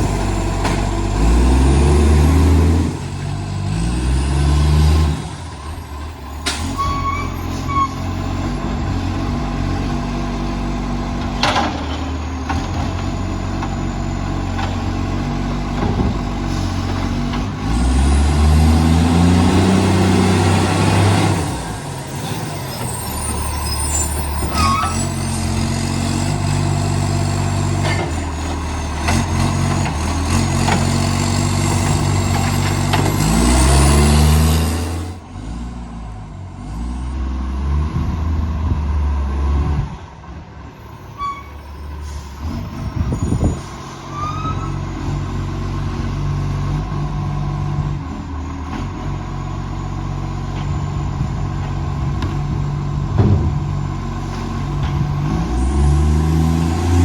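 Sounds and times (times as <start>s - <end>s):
diesel engine with exhaust leak: 0.0s - 57.0s.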